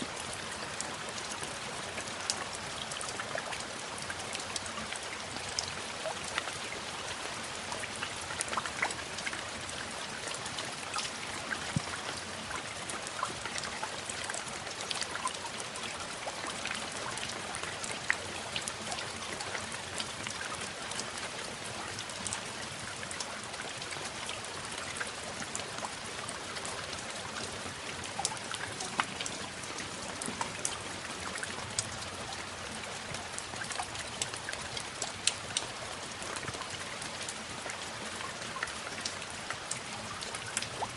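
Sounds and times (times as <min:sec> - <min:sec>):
steady rain with ticking drops: 0:00.0 - 0:40.9.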